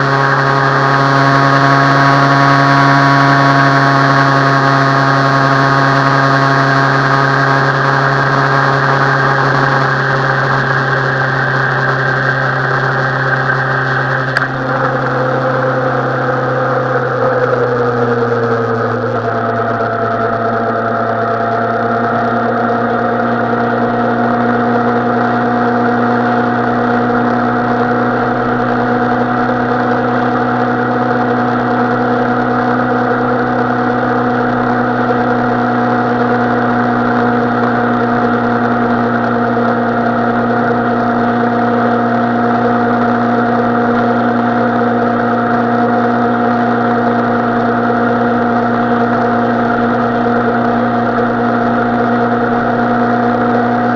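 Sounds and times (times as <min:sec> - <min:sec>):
motorcycle engine running steadily: 0:00.0 - 0:53.9.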